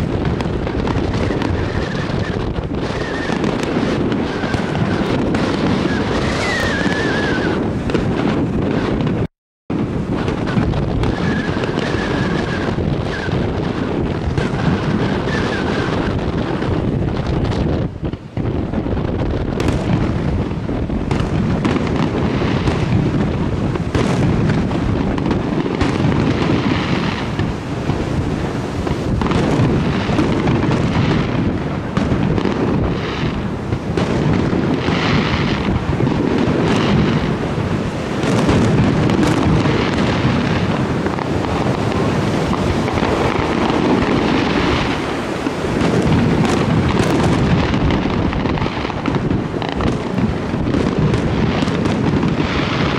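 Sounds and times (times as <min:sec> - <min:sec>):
fireworks booming: 0:00.0 - 0:52.9
fireworks crackling: 0:00.0 - 0:52.9.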